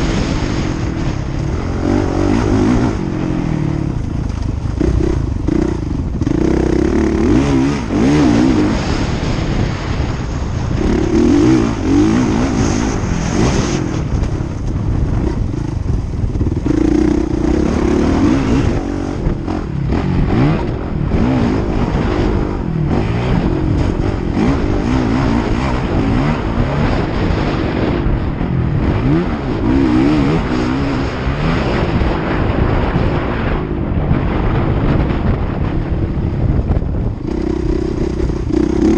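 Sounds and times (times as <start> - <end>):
motocross bike engines revving: 0.0 - 33.6, 37.0 - 38.9.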